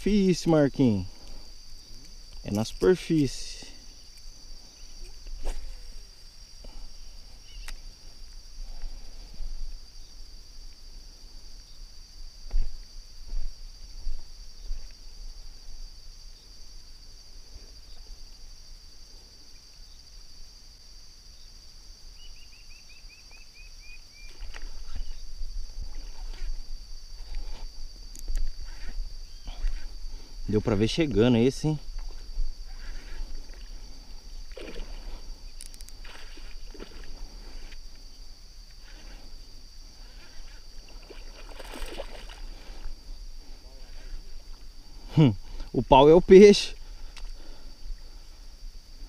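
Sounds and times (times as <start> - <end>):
insects droning chorus: 0.0 - 49.0.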